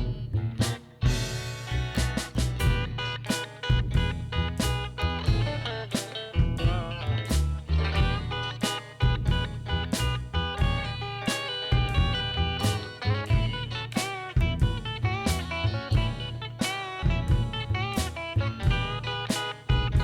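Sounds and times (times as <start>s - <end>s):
upbeat guitar music with drums: 0.0s - 20.0s.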